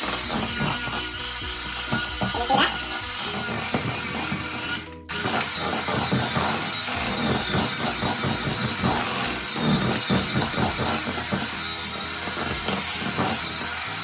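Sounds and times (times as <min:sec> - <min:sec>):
electric hand mixer churning dough: 0:00.0 - 0:14.0.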